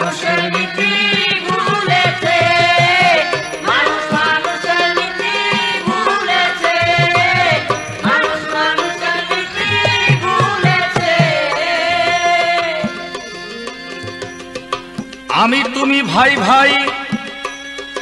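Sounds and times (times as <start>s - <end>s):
sliding folk melody: 0.0s - 18.0s
hand drum strokes: 0.3s - 15.7s.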